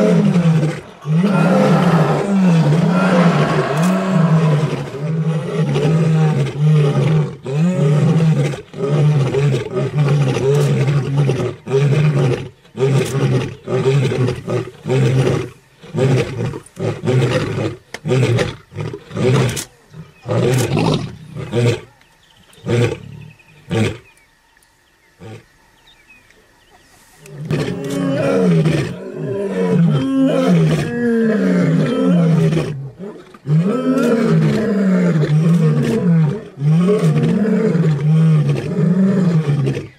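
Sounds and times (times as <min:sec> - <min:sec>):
lions roaring: 0:00.0 - 0:21.9, 0:27.3 - 0:39.9.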